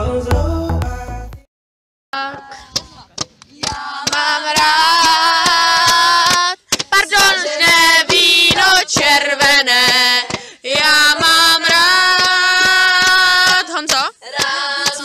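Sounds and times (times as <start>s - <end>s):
person singing unaccompanied: 2.2s - 15.0s.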